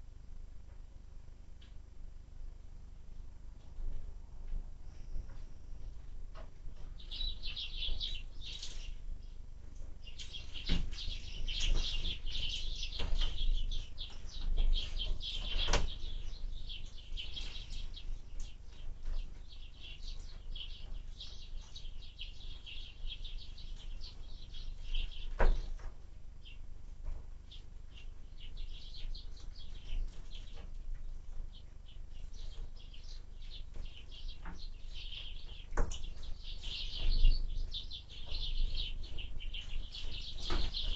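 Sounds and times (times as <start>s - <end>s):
small birds chirping: 4.9s - 40.9s.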